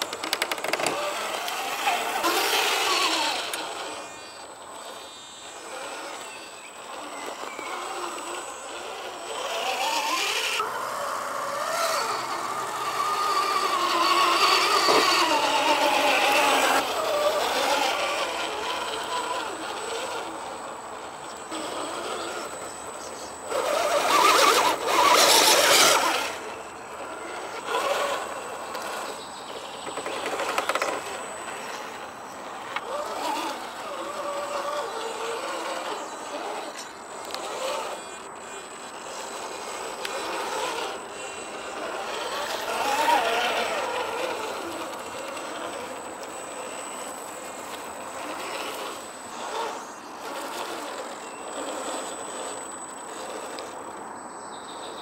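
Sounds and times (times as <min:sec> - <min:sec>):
electric motor and gears whining: 0:00.0 - 0:55.0.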